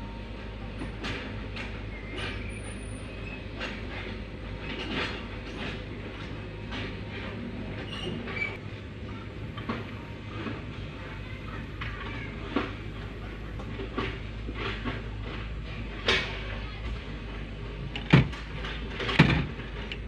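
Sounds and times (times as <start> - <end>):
track chains squeaking and clanking: 0.0 - 20.0.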